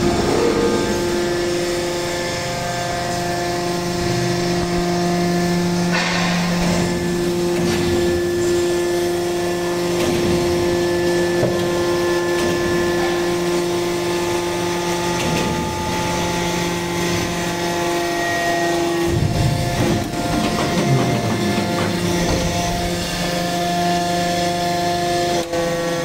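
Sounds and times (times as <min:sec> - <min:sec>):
hydraulic press humming: 0:00.0 - 0:26.0.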